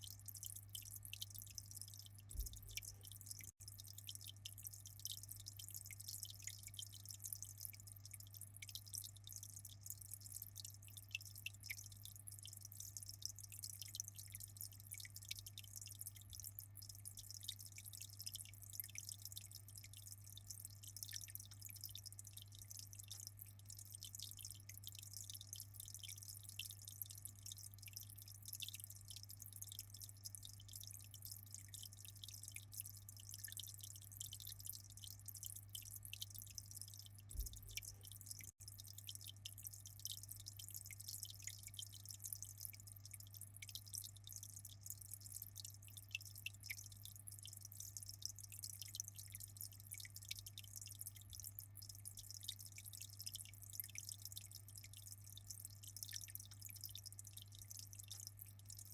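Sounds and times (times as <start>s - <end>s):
aquarium water trickling: 0.0s - 58.9s.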